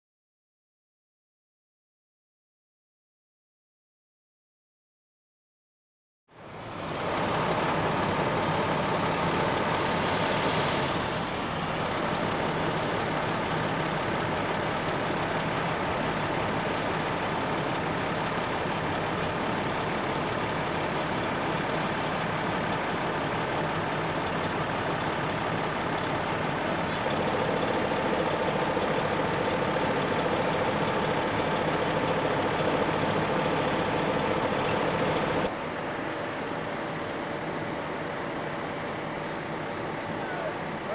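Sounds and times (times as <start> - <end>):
heavy vehicle engine running: 6.4 - 40.9.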